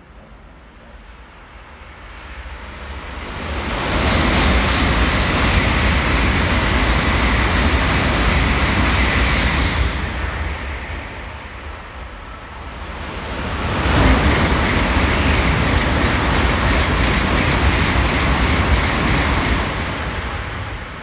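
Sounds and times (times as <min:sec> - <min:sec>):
train rushing past: 0:00.0 - 0:21.0.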